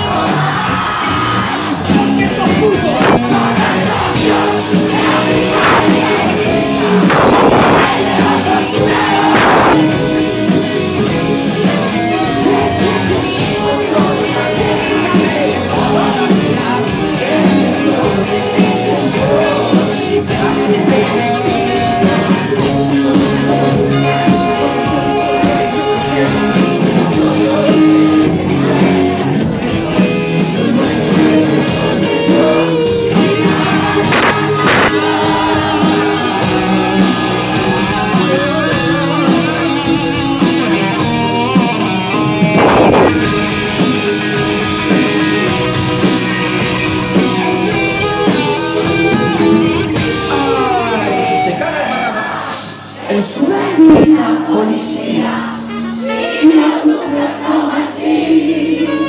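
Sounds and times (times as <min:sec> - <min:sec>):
electric bass: 0:00.0 - 0:54.6
live rock band playing: 0:00.0 - 0:59.0
singer singing into microphone: 0:00.0 - 0:59.0.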